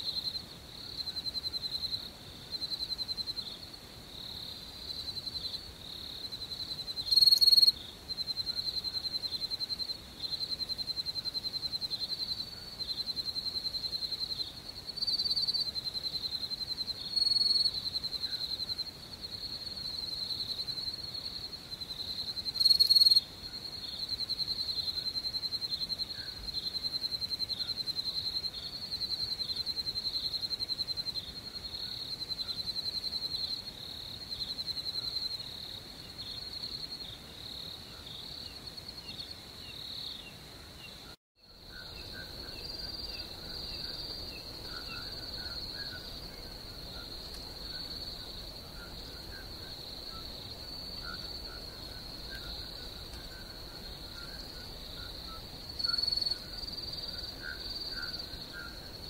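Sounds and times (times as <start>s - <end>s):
crickets chirping: 0.0s - 59.0s
louder close insect calls: 4.3s - 59.0s.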